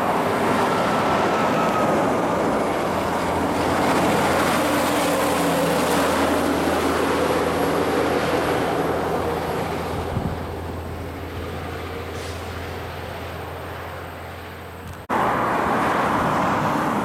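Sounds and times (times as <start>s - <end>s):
truck passing at speed: 0.0s - 17.0s.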